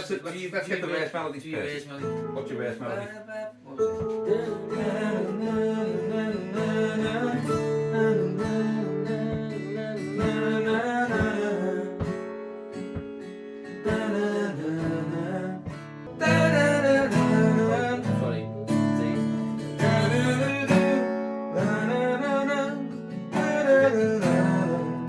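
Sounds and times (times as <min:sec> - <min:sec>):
acoustic guitar strumming: 0:01.6 - 0:25.0
person singing wordless melody: 0:02.0 - 0:25.0.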